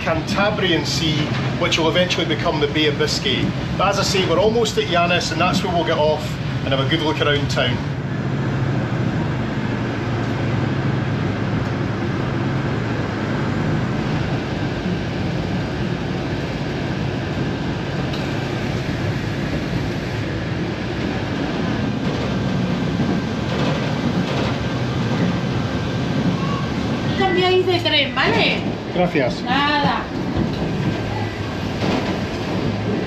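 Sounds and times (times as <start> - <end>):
train running noise inside carriage: 0.0 - 33.0.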